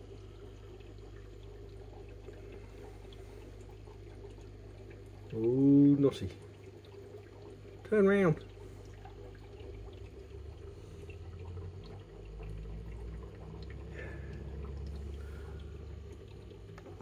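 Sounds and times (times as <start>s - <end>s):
aquarium water trickling: 0.0s - 17.0s
low continuous hum: 0.0s - 17.0s.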